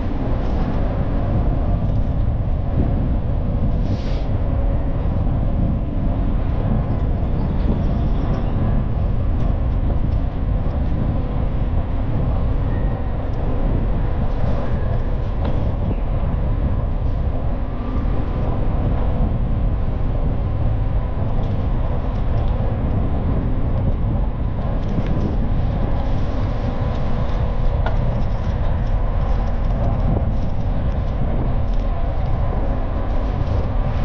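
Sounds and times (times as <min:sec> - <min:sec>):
light-metro train rumbling: 0:00.0 - 0:34.0.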